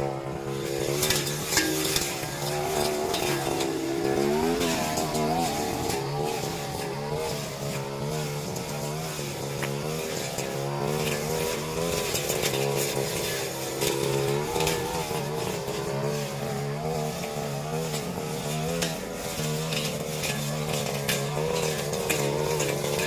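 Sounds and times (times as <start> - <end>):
brush cutter engine cutting: 0.0 - 23.0.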